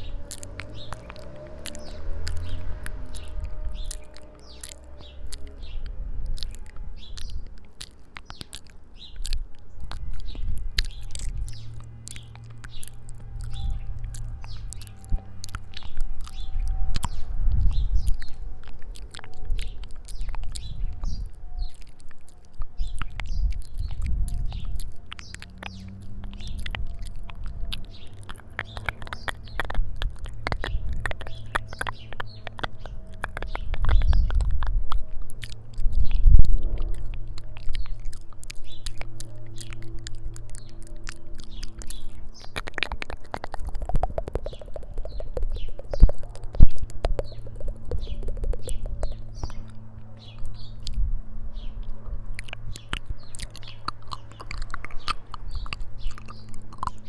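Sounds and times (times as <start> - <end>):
birds chirping: 0.0 - 57.0
low outdoor rumble: 0.0 - 57.0
wet lip and tongue clicks: 0.0 - 57.0.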